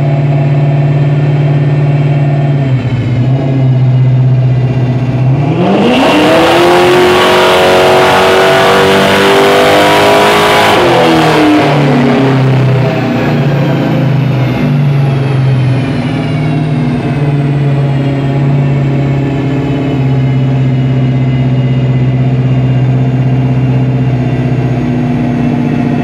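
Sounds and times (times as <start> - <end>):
car engine droning: 0.0 - 26.0
drivetrain and rollers whine: 0.0 - 26.0.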